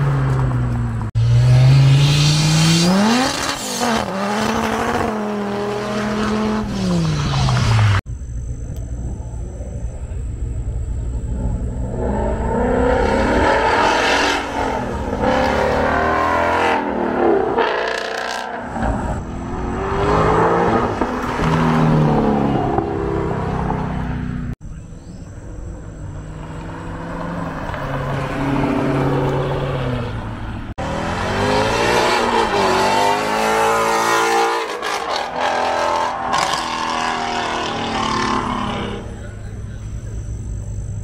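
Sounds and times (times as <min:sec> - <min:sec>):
supercar engines revving: 0:00.0 - 0:41.0.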